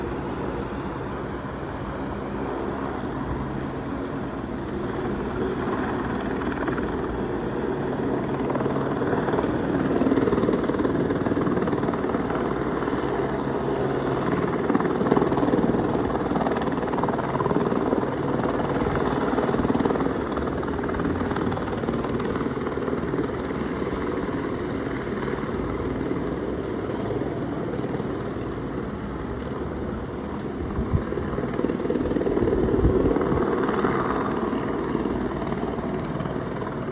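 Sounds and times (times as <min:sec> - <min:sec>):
helicopter rotor and engine drone: 0:00.0 - 0:36.9.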